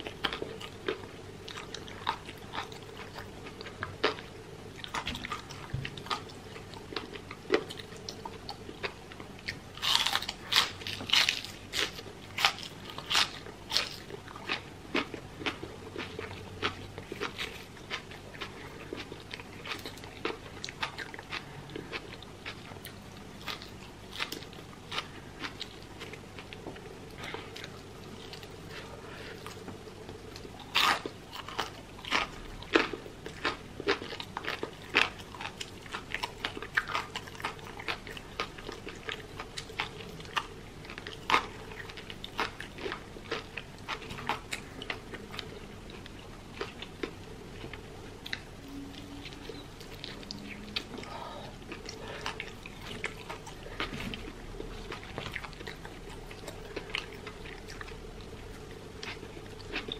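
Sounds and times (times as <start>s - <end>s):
crunching and chewing fried food: 0.0s - 59.9s.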